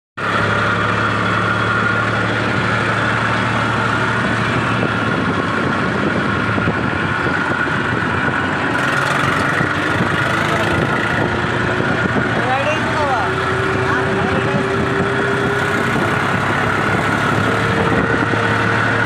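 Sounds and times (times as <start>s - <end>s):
tractor diesel engine running: 0.2s - 19.0s
high whine: 0.5s - 19.0s.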